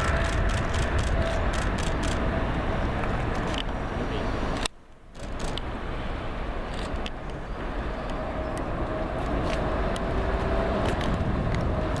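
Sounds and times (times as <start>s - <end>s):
faint jet engine whine: 0.0s - 12.0s
jet engines deep rumble: 0.0s - 12.0s.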